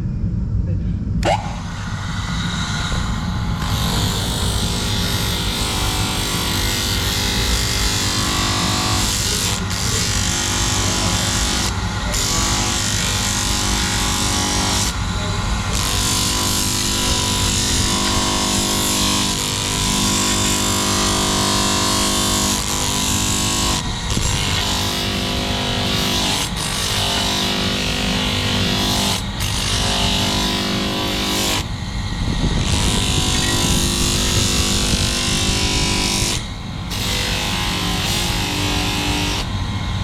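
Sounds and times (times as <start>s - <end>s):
power grinder grinding steel: 2.6s - 31.8s, 32.6s - 39.6s.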